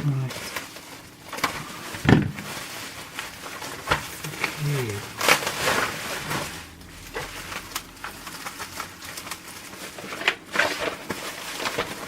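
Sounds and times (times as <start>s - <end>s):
packaging wrap rustling and crinkling: 0.0s - 12.0s
scattered crackles and clicks: 0.0s - 12.0s.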